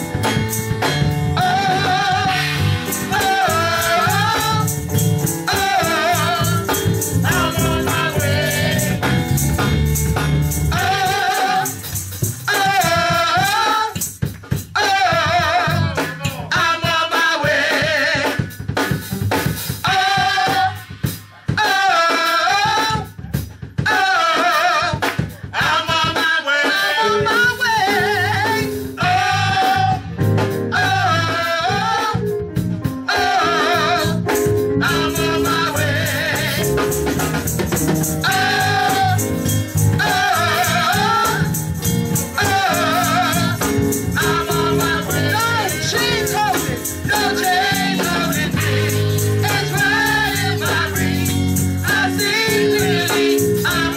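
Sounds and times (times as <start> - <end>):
drums and rattling percussion: 0.0 - 53.9
group gospel singing: 0.0 - 53.9.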